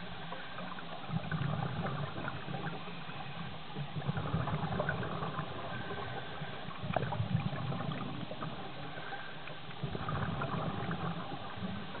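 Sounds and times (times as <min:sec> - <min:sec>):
faint crackles and clicks: 0:00.0 - 0:12.0
muffled underwater rushing: 0:00.0 - 0:12.0.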